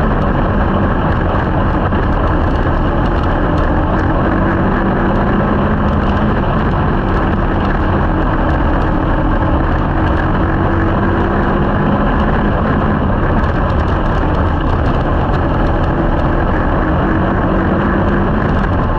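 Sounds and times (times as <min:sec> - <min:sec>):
car rattling on dirt: 0:00.0 - 0:18.9
single-cylinder engine running: 0:00.0 - 0:18.9.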